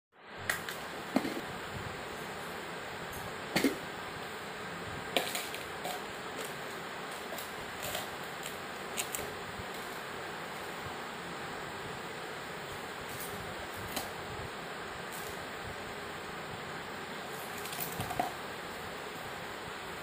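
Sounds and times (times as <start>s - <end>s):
steady hiss: 0.2s - 20.0s.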